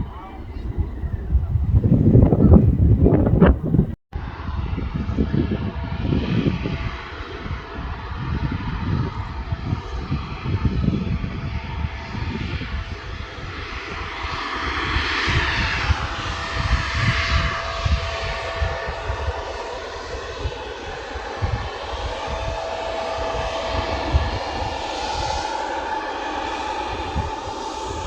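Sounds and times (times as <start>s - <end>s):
low rumble: 0.0s - 12.8s, 15.4s - 28.0s
airliner engines whining: 0.0s - 28.0s.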